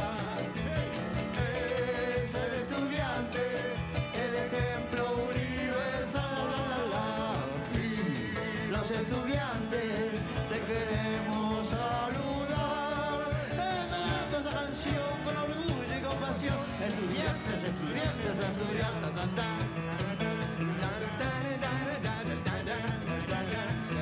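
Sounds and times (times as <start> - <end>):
cajon beaten in steady rhythm: 0.0 - 24.0
electric guitar: 0.0 - 24.0
man singing: 0.0 - 24.0.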